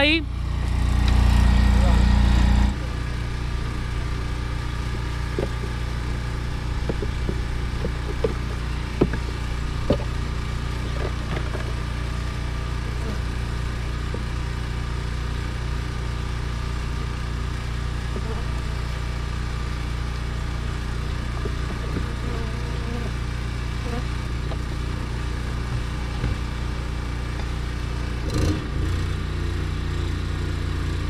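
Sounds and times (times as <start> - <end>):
generator engine running: 0.0 - 31.0.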